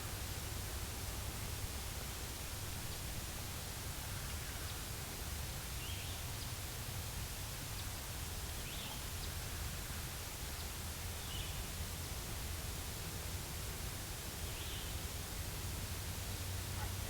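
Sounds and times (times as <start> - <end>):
steady hiss and low rumble: 0.0 - 17.0.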